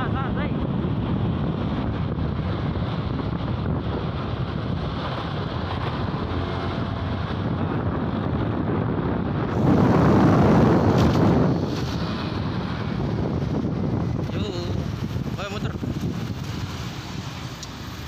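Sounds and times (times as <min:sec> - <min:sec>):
moving vehicle road noise: 0:00.0 - 0:18.0
wind buffeting microphone: 0:00.0 - 0:18.0.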